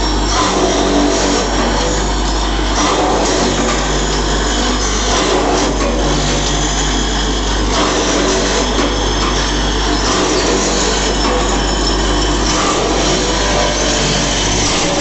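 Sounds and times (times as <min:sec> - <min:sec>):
grinding machine grinding: 0:00.0 - 0:15.0
motor hum: 0:00.0 - 0:15.0.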